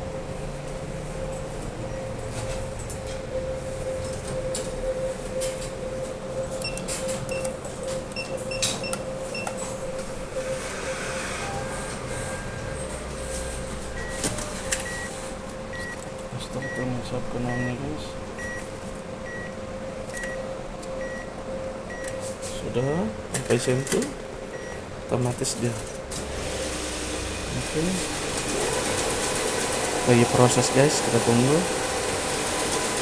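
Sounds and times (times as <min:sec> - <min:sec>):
machine beeping: 0:00.0 - 0:32.1
machine hum: 0:00.0 - 0:33.0.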